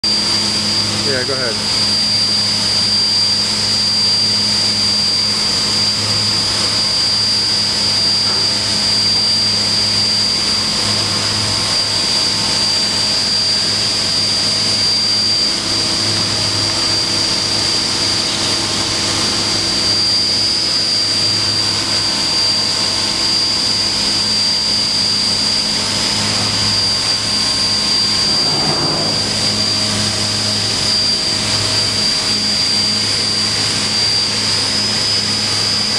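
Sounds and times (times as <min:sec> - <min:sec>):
machine hum with high whine: 0:00.0 - 0:35.9.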